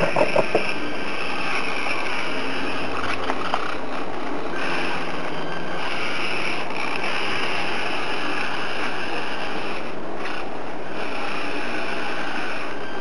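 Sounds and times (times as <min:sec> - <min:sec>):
high motor whine: 0:00.0 - 0:13.0
toy car motors whirring: 0:00.0 - 0:13.0.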